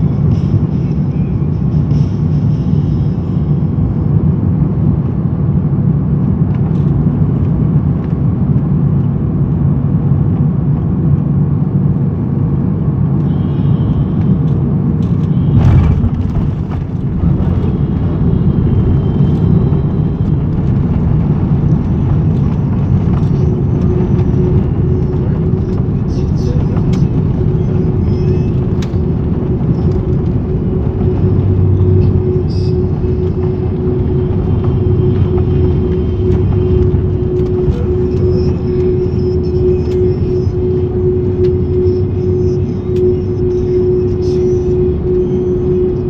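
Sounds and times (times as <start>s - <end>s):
jet engines and airflow rumbling: 0.0s - 46.0s.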